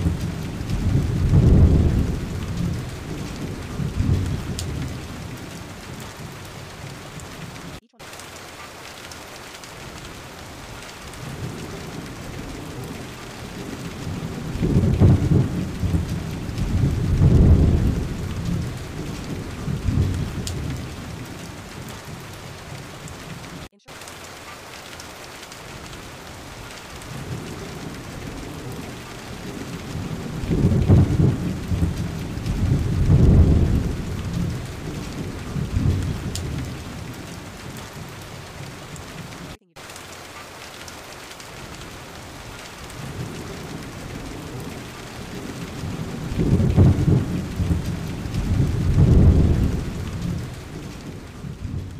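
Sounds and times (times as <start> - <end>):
rolling thunder: 0.0 - 7.8, 9.8 - 23.7, 25.7 - 39.4, 41.6 - 51.9
steady rain: 0.0 - 51.9.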